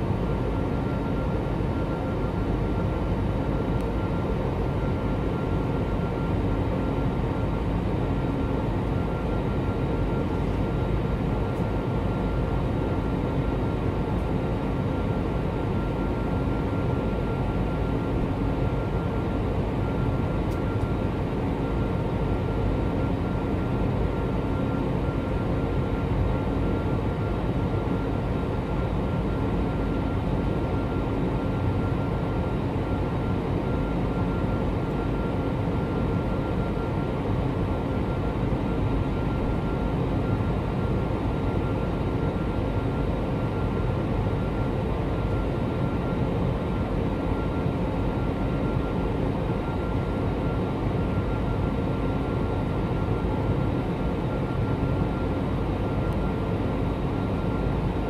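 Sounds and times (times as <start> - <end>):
airliner cabin engine and airflow noise: 0.0 - 58.0.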